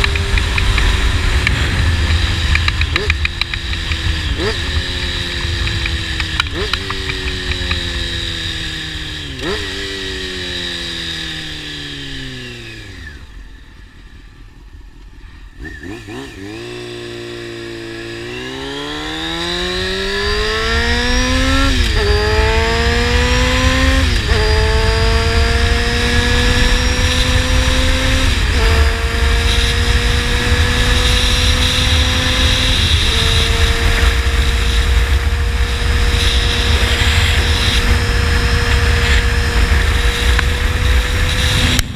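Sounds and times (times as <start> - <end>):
motorcycle engine revving: 0.0 - 14.7, 15.3 - 41.9.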